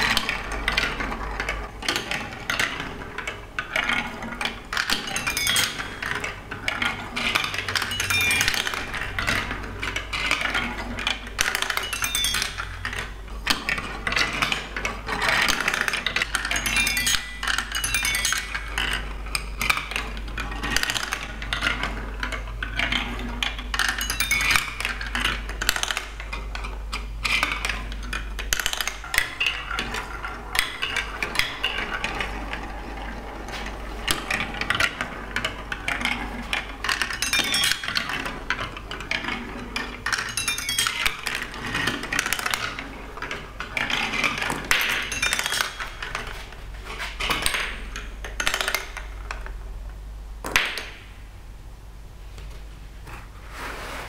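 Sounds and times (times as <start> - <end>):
plastic balls clattering in marble run: 0.0 - 49.5.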